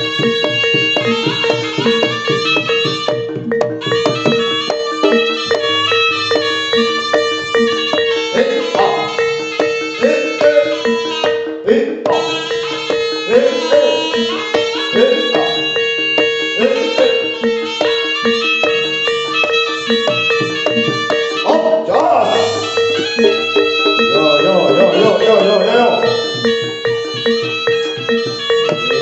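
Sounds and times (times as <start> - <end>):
drums and struck gongs: 0.0 - 29.0
reedy melody: 0.0 - 29.0.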